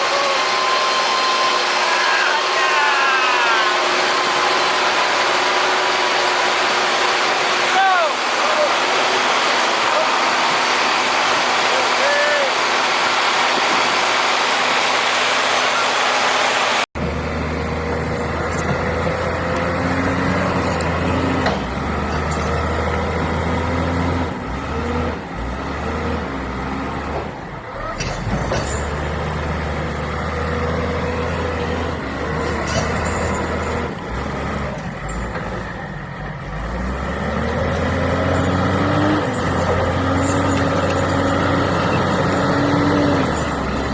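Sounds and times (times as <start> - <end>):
heavy diesel engine revving: 0.0 - 43.9.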